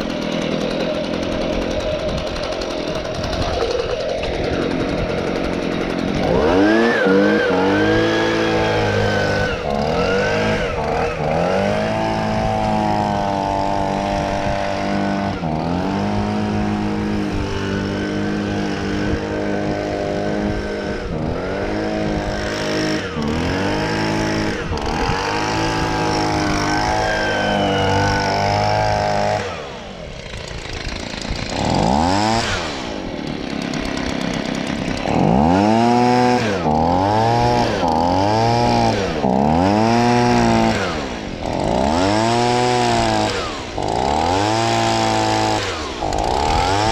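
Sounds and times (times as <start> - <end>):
leaf blower engine revving: 0.0 - 46.9.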